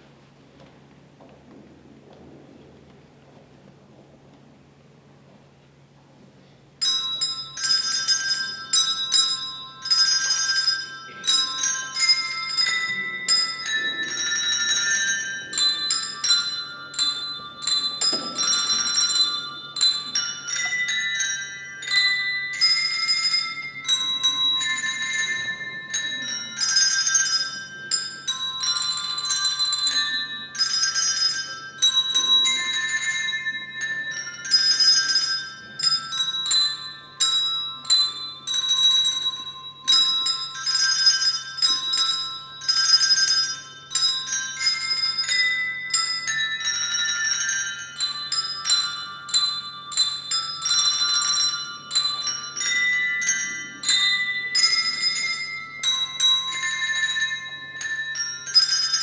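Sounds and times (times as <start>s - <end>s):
bell melody: 6.8s - 59.0s.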